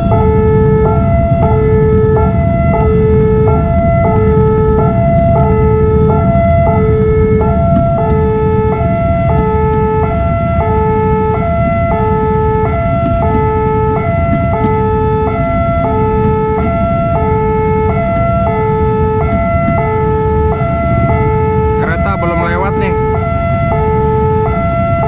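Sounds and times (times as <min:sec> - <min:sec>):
level crossing two-note alarm: 0:00.0 - 0:25.0
steady low rumble: 0:00.0 - 0:25.0.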